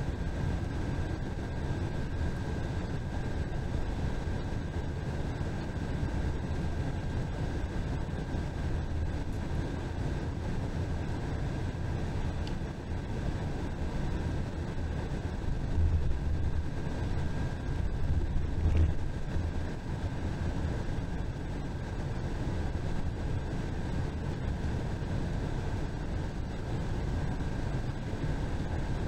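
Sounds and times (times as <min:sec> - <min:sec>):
bus engine and road rumble: 0:00.0 - 0:29.0
thin steady whine: 0:00.0 - 0:29.0.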